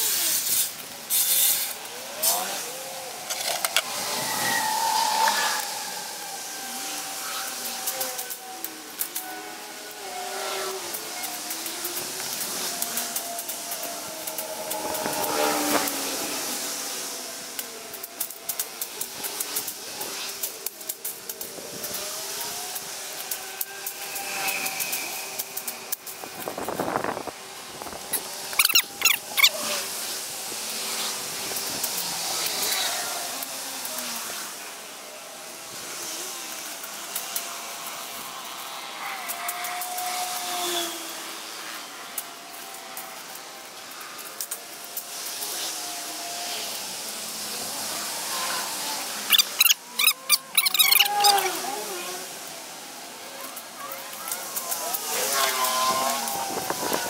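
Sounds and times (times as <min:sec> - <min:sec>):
faint engine drone: 0:00.0 - 0:57.0
leaves and branches rustling: 0:00.0 - 0:57.0.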